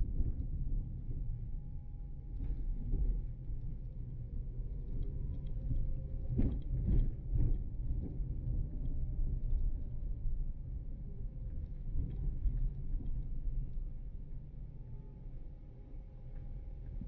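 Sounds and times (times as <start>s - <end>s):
car engine and road rumble: 0.1s - 17.0s.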